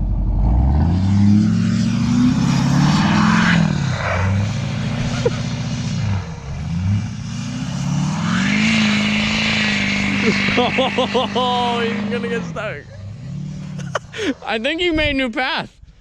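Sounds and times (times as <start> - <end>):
truck engine revving: 0.0 - 14.6.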